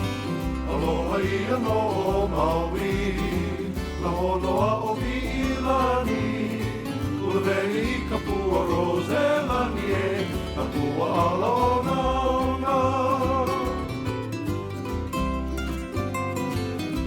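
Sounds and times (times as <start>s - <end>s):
song with singing voice: 0.0s - 14.3s
guitar: 0.0s - 17.0s
steady bass line: 0.0s - 17.0s.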